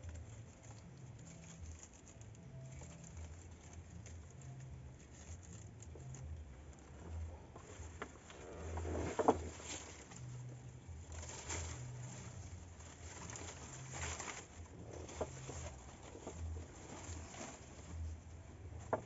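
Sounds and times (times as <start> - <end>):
palm fronds rustling and scraping: 0.1 - 19.0.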